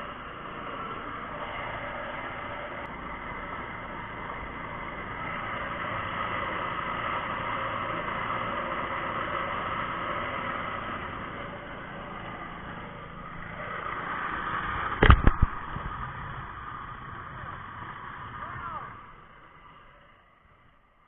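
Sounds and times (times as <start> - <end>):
small boat engine running: 0.0 - 21.0.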